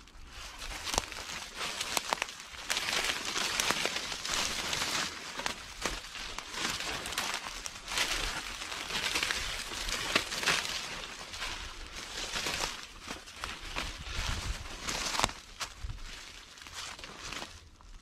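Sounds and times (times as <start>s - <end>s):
footsteps crunching dry leaves: 0.0s - 18.0s.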